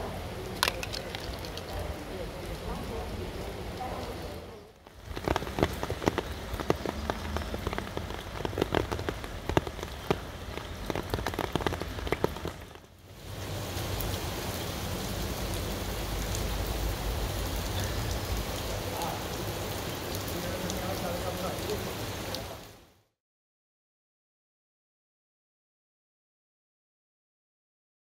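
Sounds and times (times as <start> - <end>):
rain hiss: 0.0 - 23.0
rain splashing in standing water: 0.0 - 23.0.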